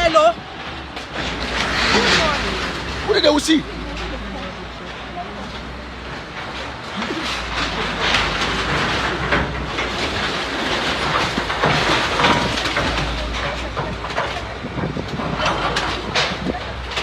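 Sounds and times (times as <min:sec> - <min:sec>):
diesel engine running: 0:00.0 - 0:17.0
metal and debris clattering: 0:00.0 - 0:17.0.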